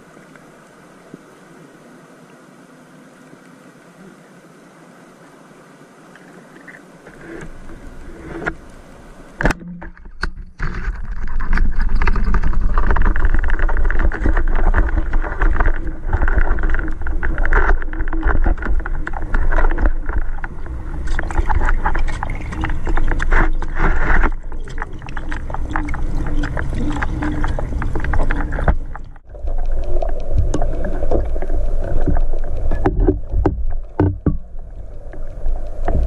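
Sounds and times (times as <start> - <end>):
underwater water rushing: 0.0 - 36.0.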